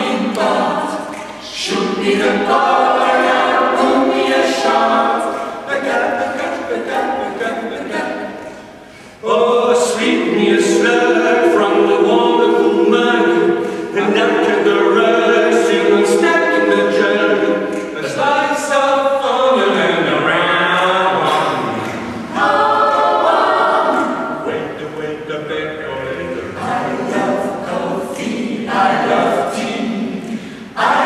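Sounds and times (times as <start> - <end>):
a cappella group singing in harmony: 0.0 - 31.0.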